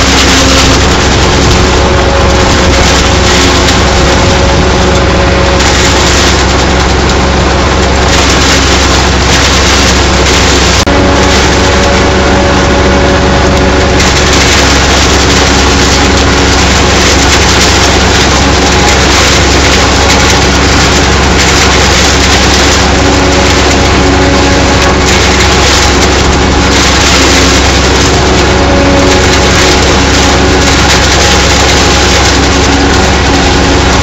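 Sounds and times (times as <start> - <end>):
forage harvester chopping: 0.0 - 34.0
tractor engine pulling hard: 0.0 - 34.0.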